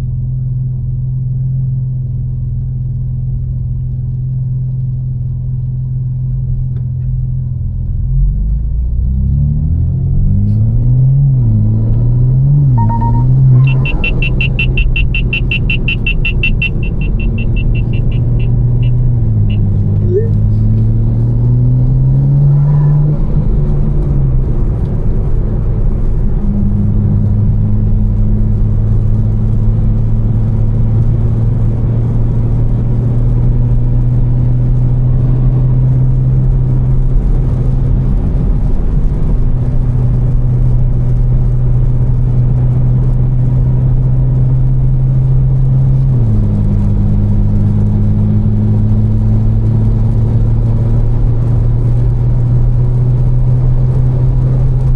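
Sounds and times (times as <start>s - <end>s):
car engine droning: 0.0s - 54.9s.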